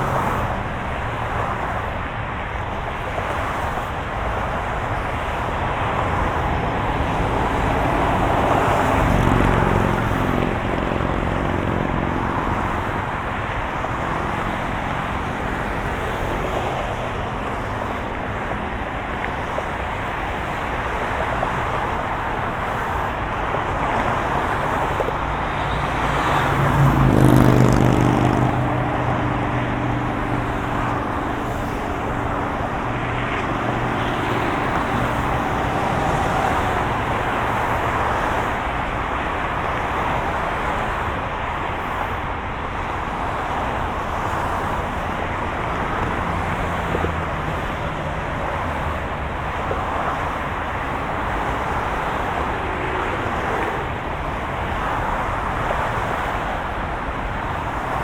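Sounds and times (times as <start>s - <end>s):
car engine hum: 0.0s - 58.0s
road and tyre noise: 0.0s - 58.0s.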